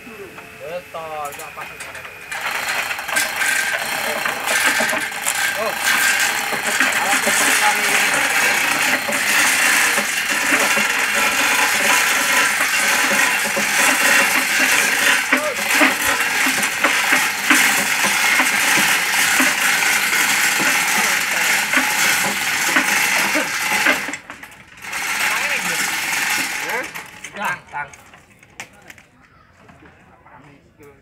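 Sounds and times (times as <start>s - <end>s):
hoist chain rattling: 1.2s - 28.6s.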